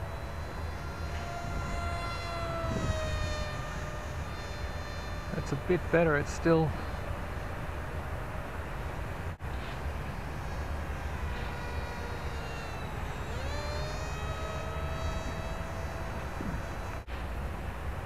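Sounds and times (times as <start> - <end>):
model plane motor whine: 0.0 - 17.4
low steady rumble: 0.0 - 18.0.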